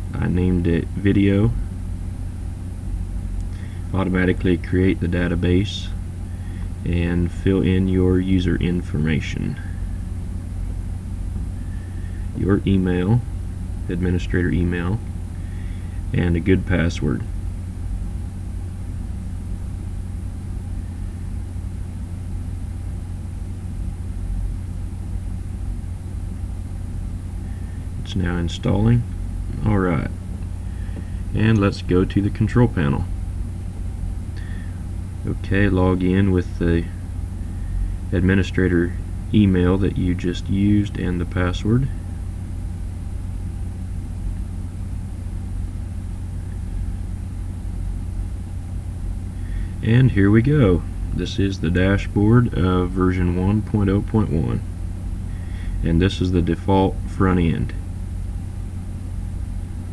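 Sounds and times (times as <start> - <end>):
low hum and rumble: 0.0 - 59.9.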